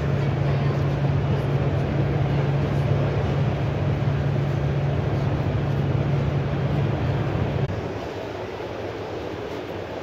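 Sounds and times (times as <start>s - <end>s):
constant low hum: 0.0s - 10.0s
even rush of noise: 0.0s - 10.0s.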